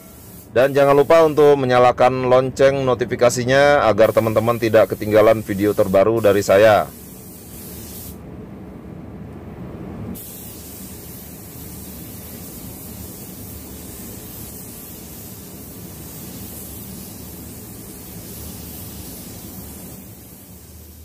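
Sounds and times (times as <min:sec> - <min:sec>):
steady hissing noise: 0:00.0 - 0:21.0.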